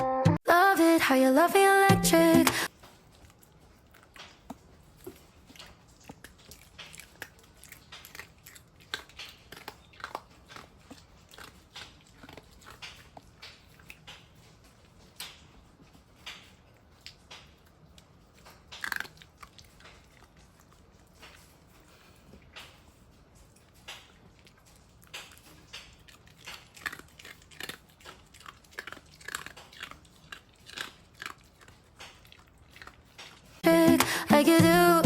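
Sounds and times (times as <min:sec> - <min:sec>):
chewing and crunching food: 0:02.6 - 0:34.2.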